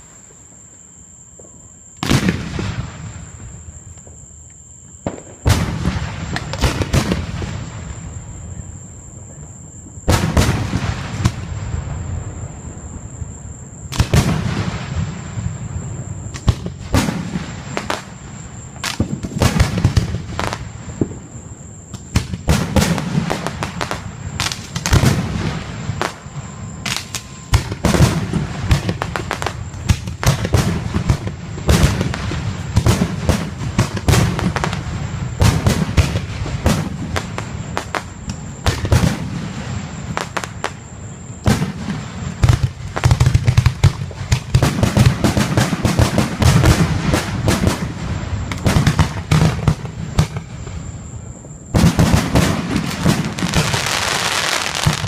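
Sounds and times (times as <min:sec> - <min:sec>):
fireworks bursting with bangs: 0:01.3 - 0:04.3, 0:05.0 - 0:08.6, 0:10.0 - 0:55.0.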